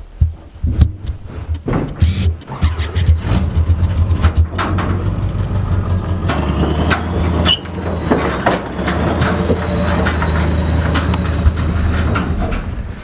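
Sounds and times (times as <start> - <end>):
livestock trailer rattling: 1.6 - 13.0
truck engine running: 1.9 - 13.0.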